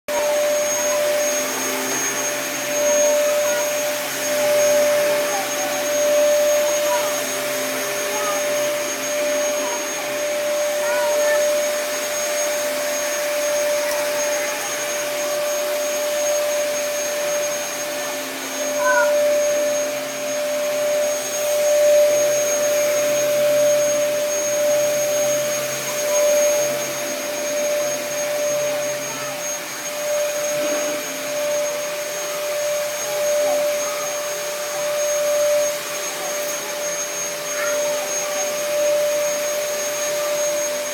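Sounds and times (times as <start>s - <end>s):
vacuum cleaner running: 0.1s - 40.9s.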